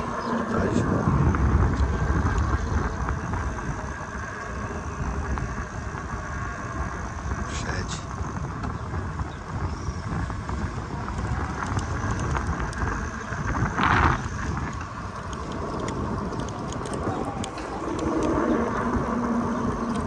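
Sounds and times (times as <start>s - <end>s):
passing cars rumble: 0.0s - 20.0s.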